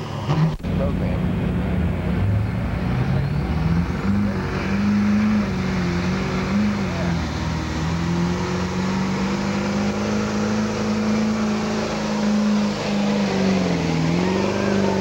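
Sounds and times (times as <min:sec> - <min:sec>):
diesel engine at high revs: 0:00.0 - 0:15.0.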